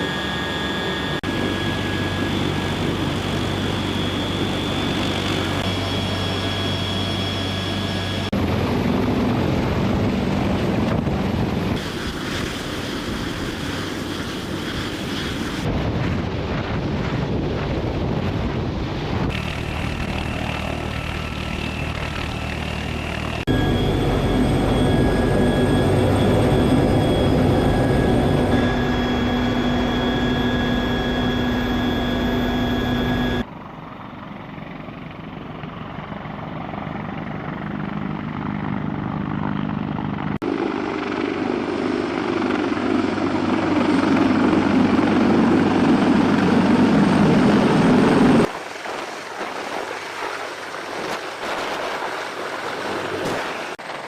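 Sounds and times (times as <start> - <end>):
helicopter rotors: 0.0 - 54.0
turbine engine whine: 0.0 - 54.0.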